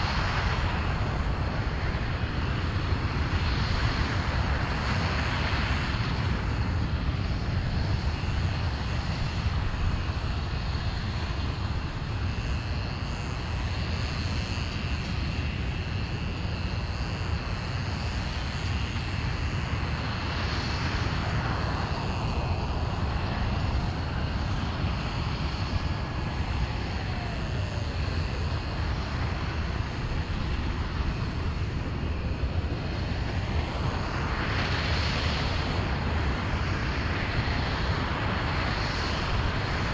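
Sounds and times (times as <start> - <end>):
rocket engine roar: 0.0 - 39.9.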